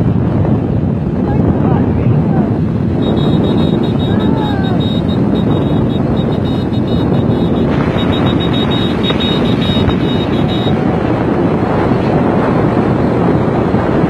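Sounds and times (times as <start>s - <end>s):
road and engine noise: 0.0s - 14.0s
wind rushing over microphone: 0.0s - 14.0s.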